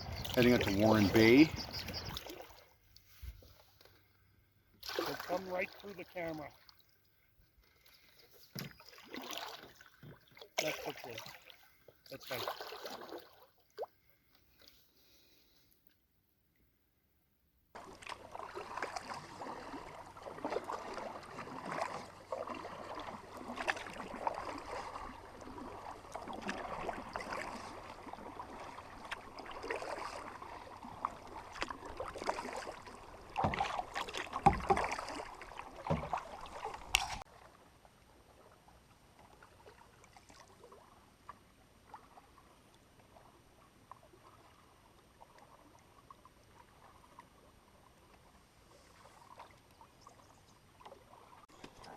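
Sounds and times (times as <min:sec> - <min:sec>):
paddle splashing water: 0:00.0 - 0:04.1, 0:04.7 - 0:15.6, 0:17.8 - 0:51.9.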